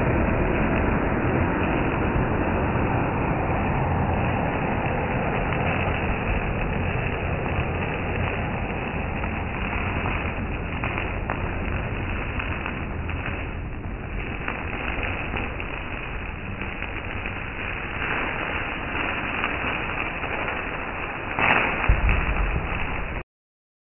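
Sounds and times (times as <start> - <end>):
firework fountain hissing: 0.0 - 23.2.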